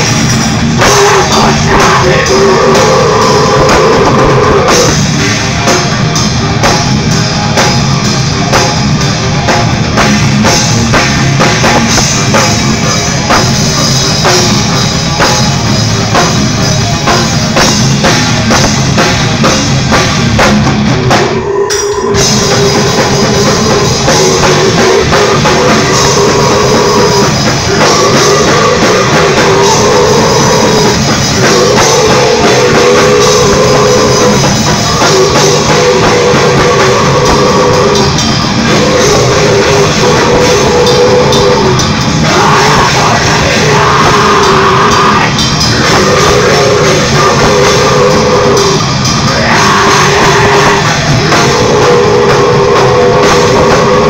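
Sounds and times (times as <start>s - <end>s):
death metal band playing live: 0.0s - 54.0s.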